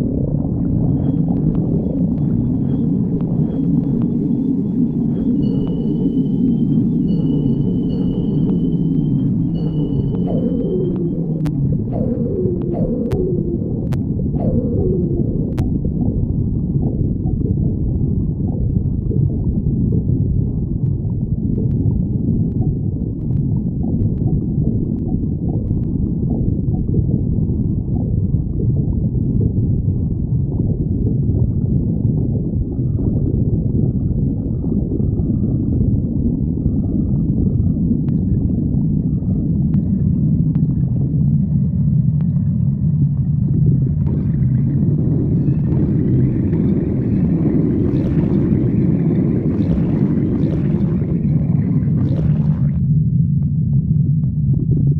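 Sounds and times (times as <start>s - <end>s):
stomach growling and gurgling: 0.0s - 54.9s.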